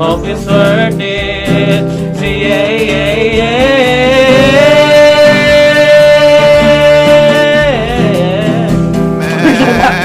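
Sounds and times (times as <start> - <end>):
person singing: 0.0 - 10.0
strummed guitar chords: 0.0 - 10.0.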